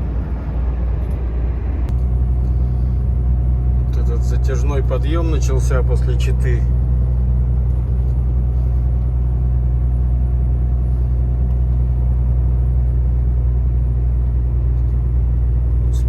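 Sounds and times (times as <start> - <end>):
truck diesel engine droning: 0.0 - 16.0.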